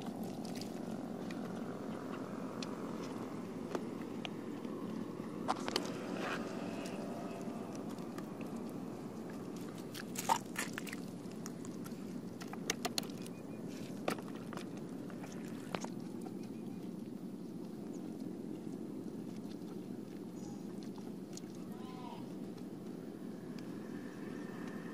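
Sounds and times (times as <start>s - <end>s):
hands packing wet mud: 0.0s - 17.0s, 17.7s - 23.8s
wet squelches and crunches: 0.0s - 22.5s.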